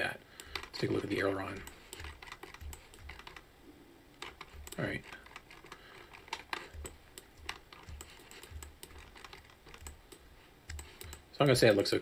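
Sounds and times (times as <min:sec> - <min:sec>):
keyboard and mouse clicks: 0:00.4 - 0:03.5, 0:04.1 - 0:11.8.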